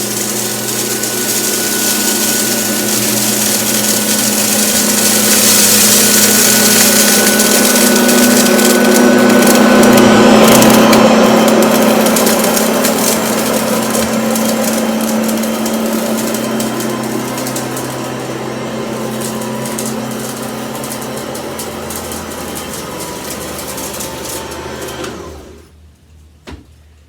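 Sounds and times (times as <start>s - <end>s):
grains rattling through vacuum: 0.0s - 25.6s
vacuum cleaner motor hum: 0.0s - 25.7s.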